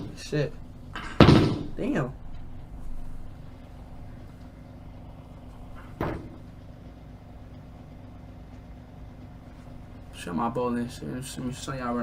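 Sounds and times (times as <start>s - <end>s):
low steady background hum: 0.0s - 12.0s.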